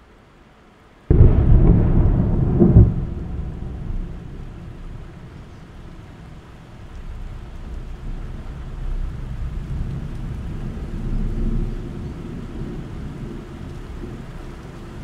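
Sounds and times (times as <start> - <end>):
rolling thunder rumble: 1.1 - 15.0.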